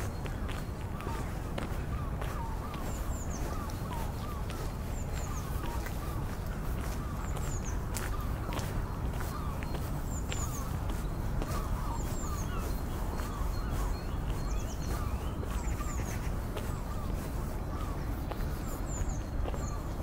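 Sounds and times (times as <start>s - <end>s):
small birds chirping: 0.0s - 20.0s
light footsteps tapping: 0.1s - 20.0s.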